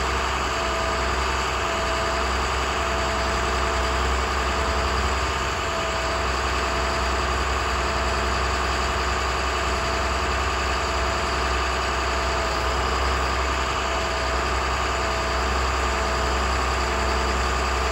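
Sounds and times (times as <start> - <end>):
diesel truck engine idling: 0.0 - 17.9.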